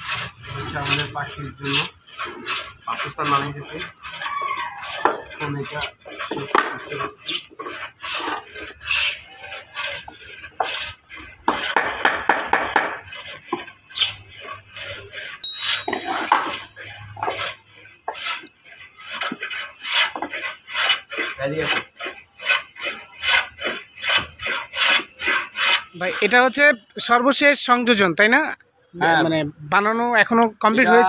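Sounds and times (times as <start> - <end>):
plywood rasping by hand: 0.0 - 26.8.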